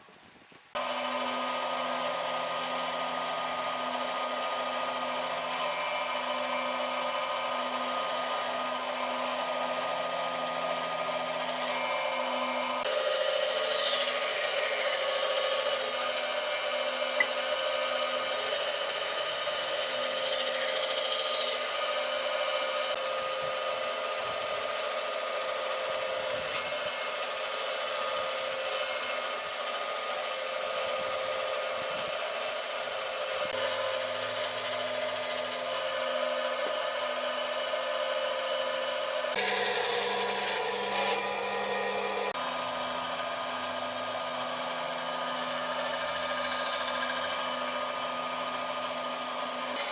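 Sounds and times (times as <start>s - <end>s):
power tool running on wood: 0.8s - 49.9s.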